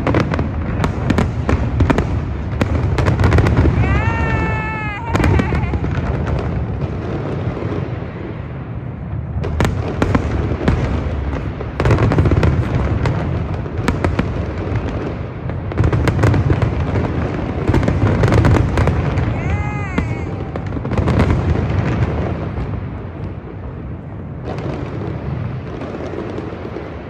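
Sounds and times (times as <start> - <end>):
fireworks booming: 0.0 - 27.0
fireworks crackling and popping: 0.0 - 27.0.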